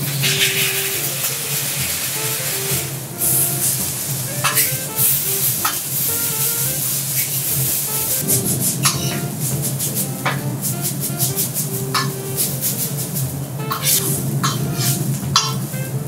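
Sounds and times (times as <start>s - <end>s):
rice sizzling on griddle: 0.0s - 14.2s
background music: 0.0s - 16.0s.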